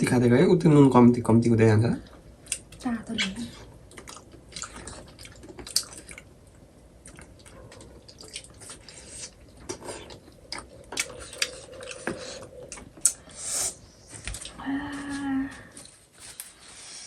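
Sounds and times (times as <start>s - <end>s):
people eating soup: 0.0s - 16.1s.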